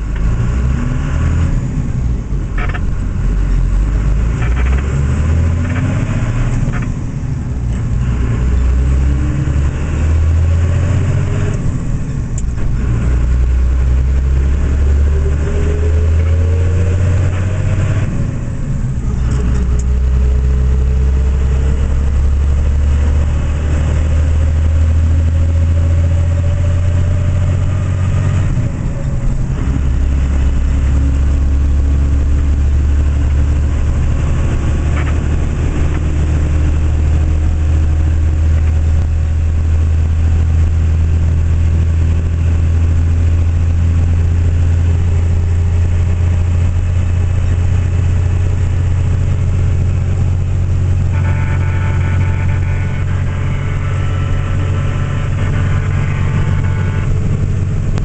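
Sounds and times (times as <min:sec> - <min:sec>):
diesel truck engine accelerating: 0:00.0 - 0:58.0
road noise: 0:00.0 - 0:58.0.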